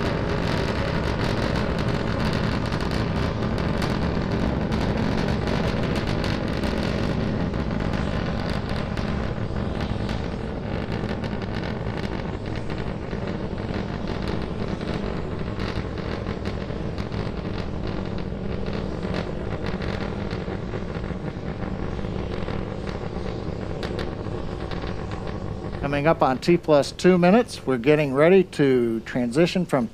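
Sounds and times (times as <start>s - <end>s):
rocket engines rumbling and crackling: 0.0s - 29.9s.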